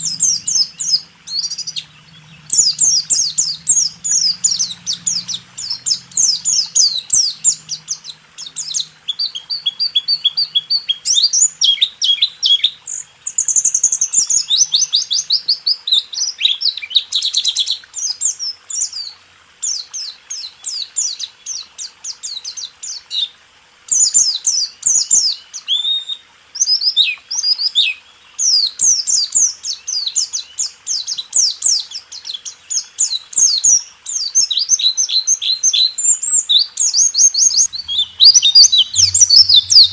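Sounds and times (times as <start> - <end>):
bird singing rapid high chirps: 0.0 - 20.0, 23.9 - 39.9.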